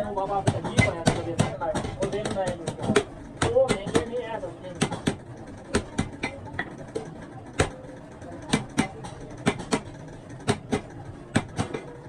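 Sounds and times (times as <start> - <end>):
low workshop hum: 0.0 - 12.0.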